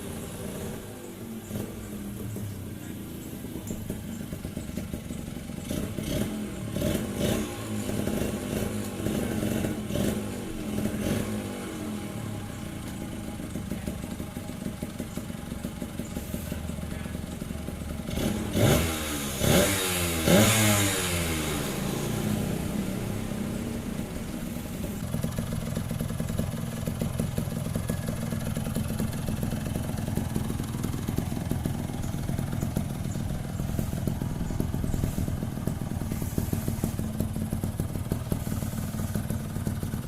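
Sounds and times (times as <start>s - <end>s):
two-stroke motorcycle engine: 0.0s - 40.0s.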